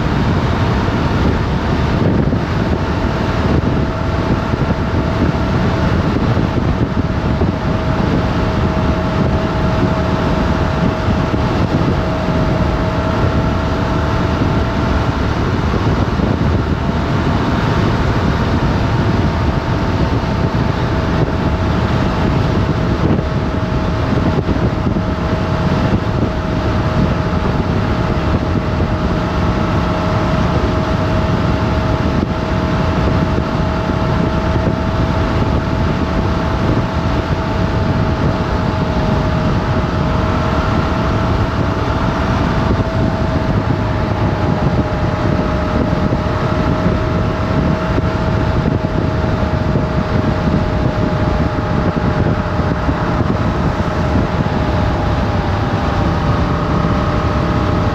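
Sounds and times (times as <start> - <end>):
motorcycle engine cruising: 0.0 - 57.9
wind rush on microphone: 0.0 - 57.9.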